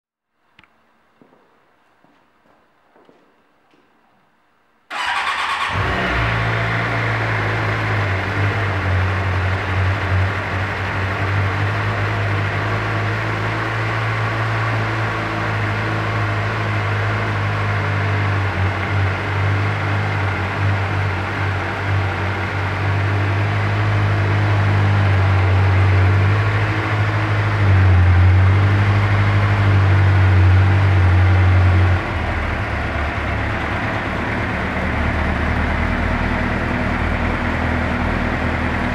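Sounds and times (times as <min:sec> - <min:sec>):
motorcycle engine running: 0:04.9 - 0:38.9.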